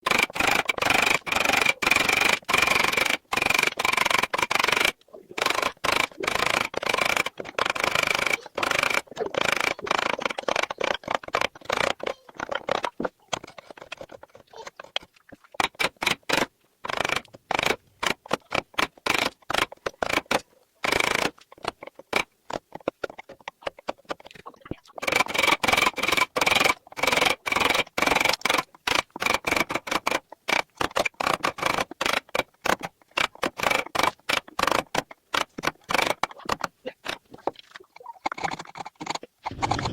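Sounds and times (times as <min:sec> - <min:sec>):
hand tool scraping stone: 0:00.0 - 0:39.9.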